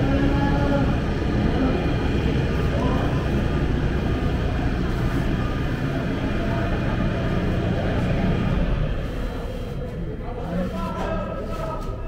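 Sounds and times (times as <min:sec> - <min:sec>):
indistinct voices: 0:00.0 - 0:12.0.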